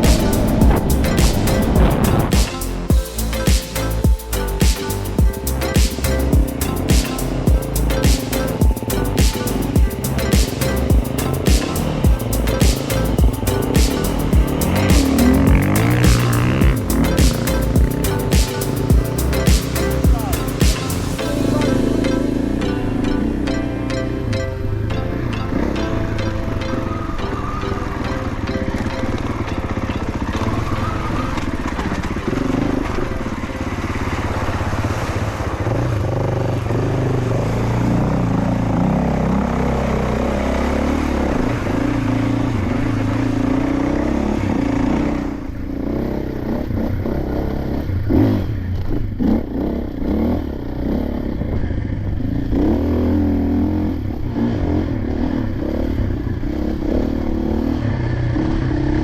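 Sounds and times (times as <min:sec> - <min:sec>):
dirt bike engine revving: 0:05.6 - 0:23.4, 0:28.6 - 0:59.0.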